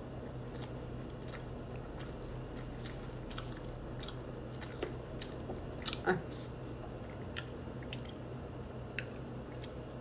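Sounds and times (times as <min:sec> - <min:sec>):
steady low hum: 0:00.0 - 0:10.0
person chewing noodles: 0:00.1 - 0:10.0.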